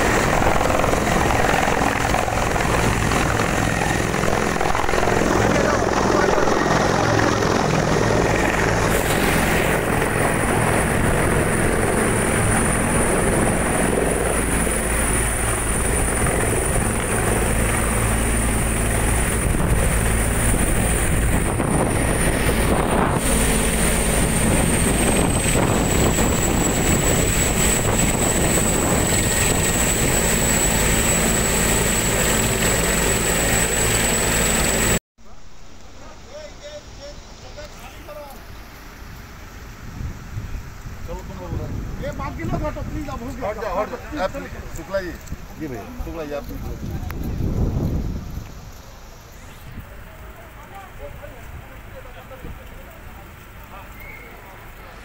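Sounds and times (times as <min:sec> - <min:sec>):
helicopter rotor and turbine: 0:00.0 - 0:35.0, 0:39.7 - 0:55.0.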